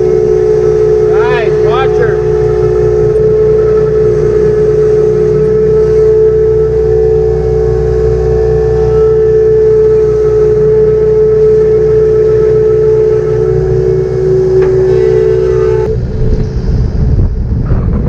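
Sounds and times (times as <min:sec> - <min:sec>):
farm machinery engine running: 0:00.0 - 0:18.0
loud constant whine: 0:00.0 - 0:18.0.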